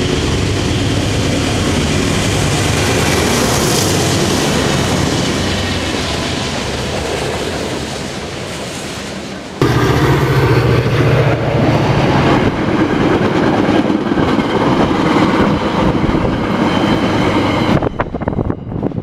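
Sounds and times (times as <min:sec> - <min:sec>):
locomotive engine hum: 0:00.0 - 0:19.0
train coaches rumbling: 0:00.0 - 0:19.0.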